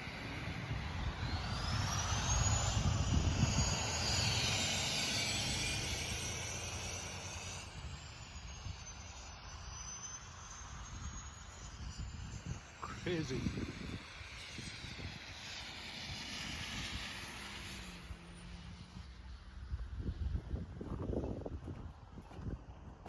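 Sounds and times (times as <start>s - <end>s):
high whine: 0.0s - 19.4s.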